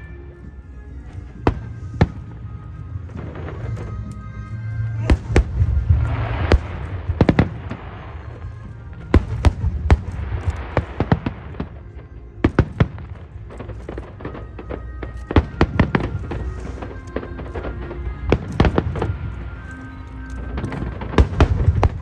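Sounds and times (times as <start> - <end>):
fireworks crackling: 0.0 - 22.0
music playing: 0.0 - 22.0.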